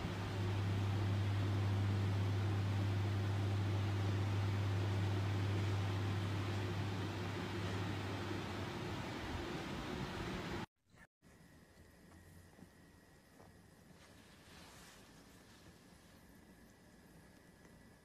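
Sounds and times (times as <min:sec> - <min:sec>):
constant hiss: 0:00.0 - 0:18.0
low steady hum: 0:00.0 - 0:18.0.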